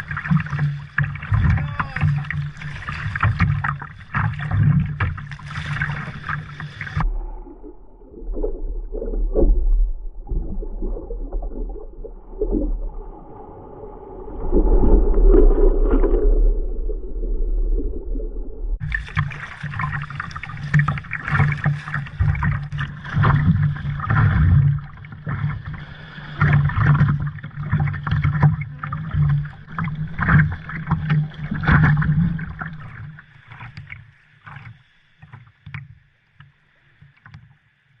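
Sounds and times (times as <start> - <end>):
water sloshing around a kayak: 0.0 - 16.7, 18.8 - 37.8.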